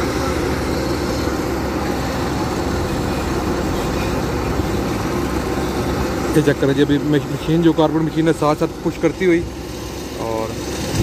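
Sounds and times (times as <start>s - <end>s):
diesel paving machinery running: 0.0s - 11.0s.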